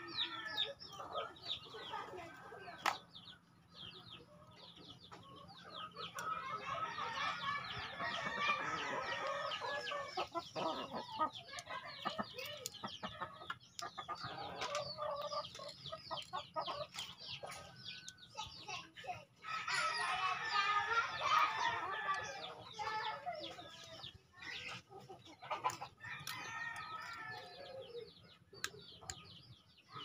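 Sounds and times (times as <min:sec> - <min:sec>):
chickens calling: 0:00.0 - 0:30.0.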